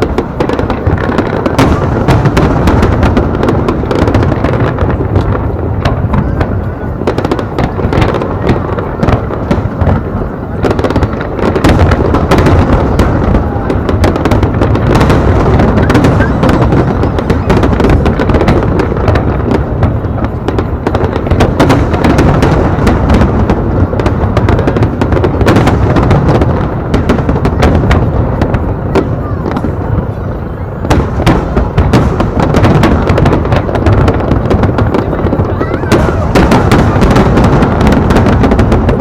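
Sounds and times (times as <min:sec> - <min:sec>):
fireworks booming and crackling: 0:00.0 - 0:39.0.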